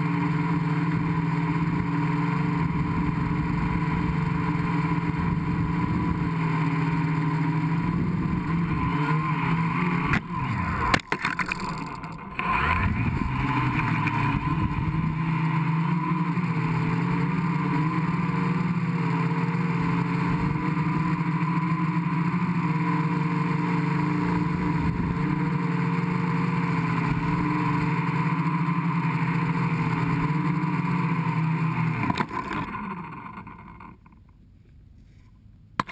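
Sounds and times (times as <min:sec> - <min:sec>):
drone motors and propellers whirring: 0:00.0 - 0:34.2.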